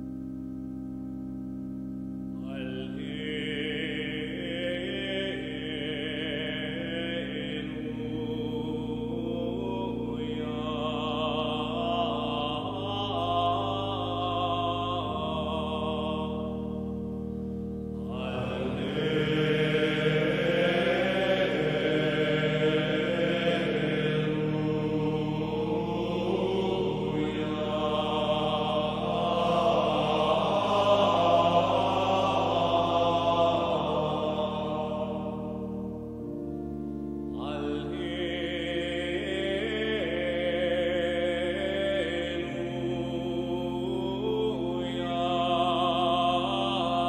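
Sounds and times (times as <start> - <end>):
sustained keyboard chords: 0.0 - 47.0
person singing slow chant: 2.2 - 47.0.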